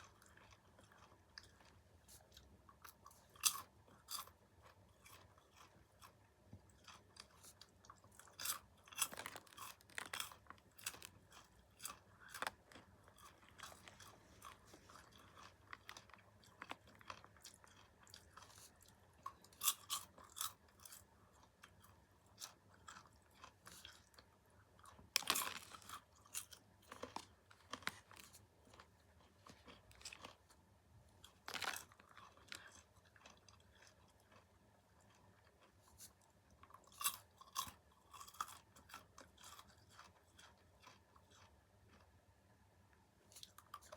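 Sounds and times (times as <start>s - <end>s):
chewing popcorn: 0.0s - 43.9s.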